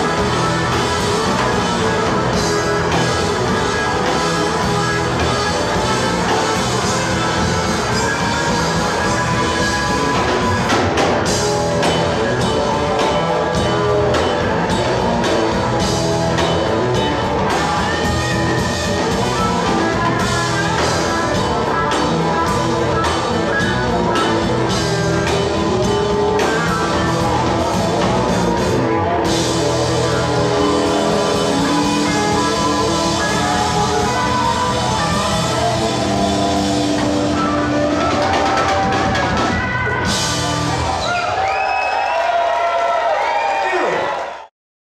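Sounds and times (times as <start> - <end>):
drum kit beat: 0.0 - 41.1
bass guitar: 0.0 - 41.6
electric guitars: 0.0 - 41.6.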